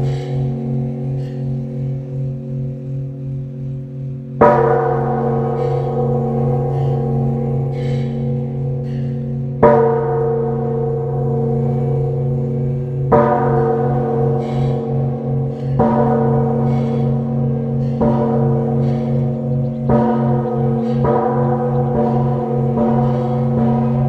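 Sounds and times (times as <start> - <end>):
large temple bell ringing: 0.0 - 24.0.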